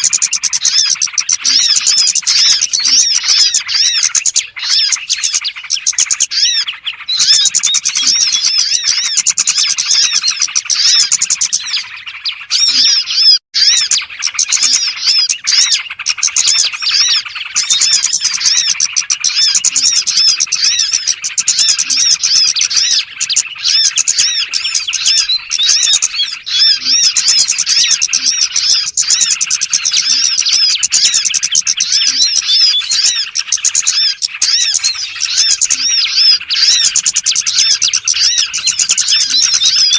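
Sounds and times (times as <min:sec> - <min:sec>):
small songbirds twittering: 0:00.0 - 0:39.9.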